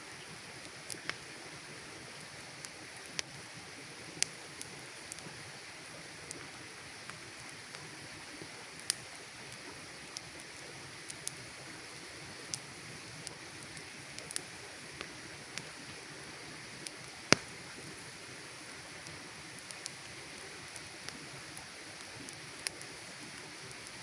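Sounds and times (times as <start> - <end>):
campfire crackling and popping: 0.1 - 24.0.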